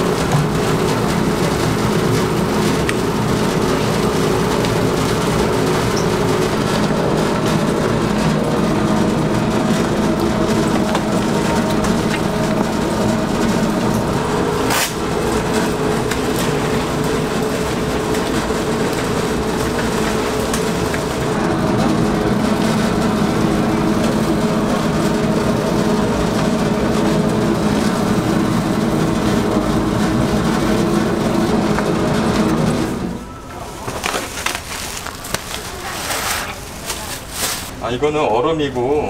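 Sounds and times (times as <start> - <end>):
electric mixer motor running: 0.0 - 33.2.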